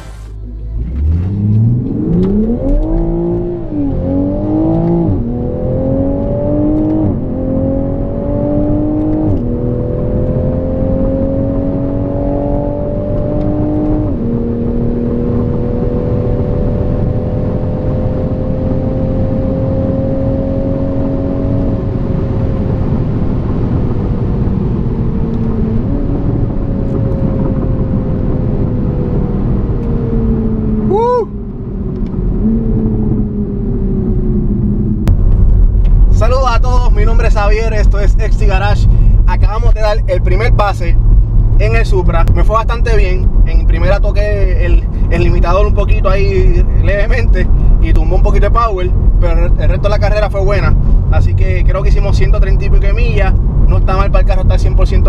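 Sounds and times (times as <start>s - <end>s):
car engine revving and shifting: 0.0s - 55.0s.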